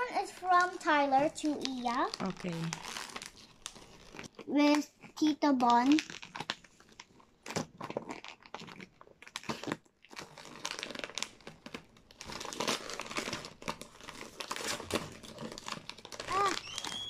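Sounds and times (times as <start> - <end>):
wrapping paper crinkling and tearing: 0.0 - 17.0.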